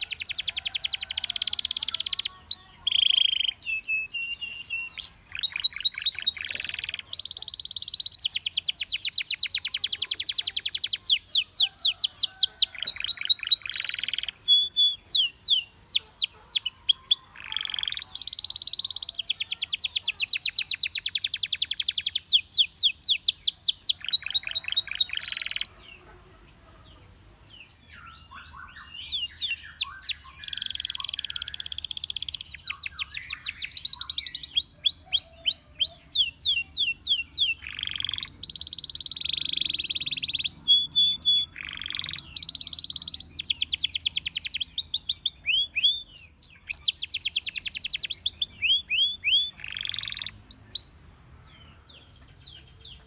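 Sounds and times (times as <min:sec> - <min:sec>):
canary song: 0:00.0 - 0:53.0.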